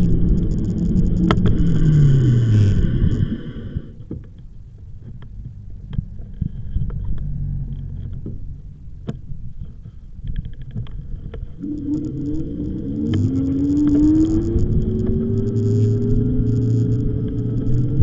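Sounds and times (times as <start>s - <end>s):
bicycle tyre and wind rumble: 0.0s - 18.0s.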